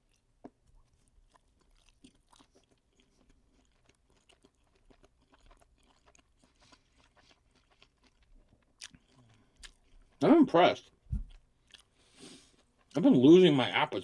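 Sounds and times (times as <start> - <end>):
chewing food: 0.0 - 13.6.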